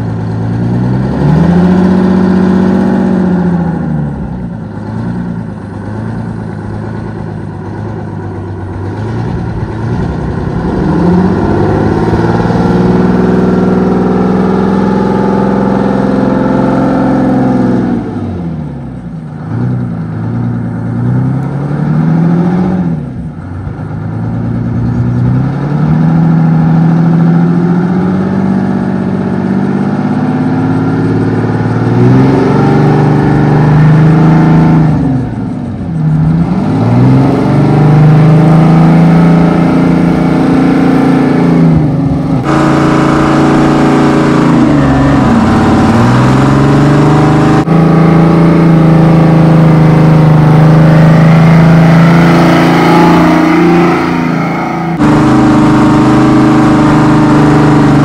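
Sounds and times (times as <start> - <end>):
diesel truck engine running hard: 0.0 - 58.0.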